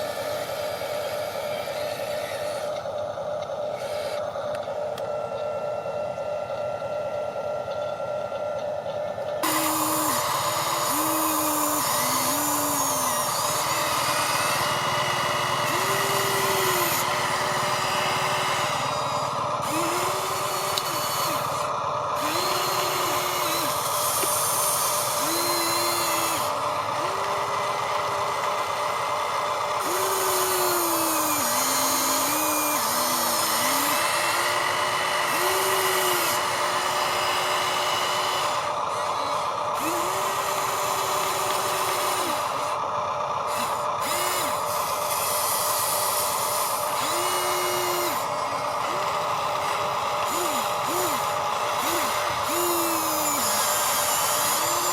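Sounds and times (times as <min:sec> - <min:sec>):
motor spinning up: 0:00.0 - 0:54.9
steady electric motor whine: 0:00.0 - 0:54.9.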